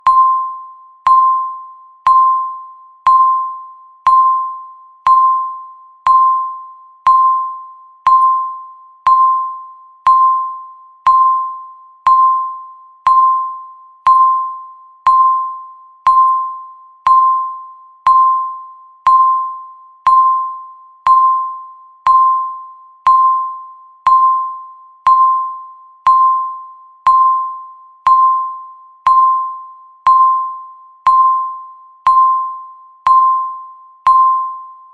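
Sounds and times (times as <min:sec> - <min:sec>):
timer beeping: 0:00.0 - 0:34.9.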